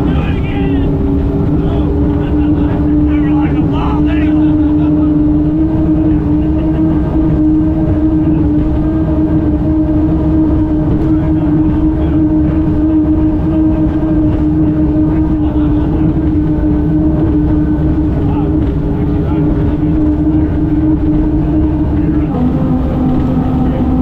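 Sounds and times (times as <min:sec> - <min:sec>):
turbine engine drone: 0:00.0 - 0:24.0.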